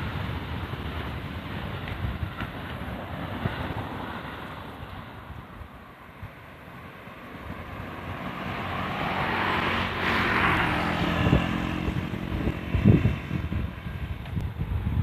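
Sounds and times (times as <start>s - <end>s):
vehicle passing close by: 0.0s - 15.0s.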